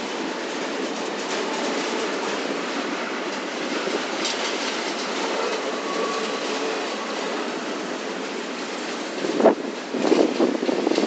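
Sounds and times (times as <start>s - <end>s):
freight train rolling past: 0.0s - 11.0s
steel wheels clattering on rails: 0.0s - 11.0s.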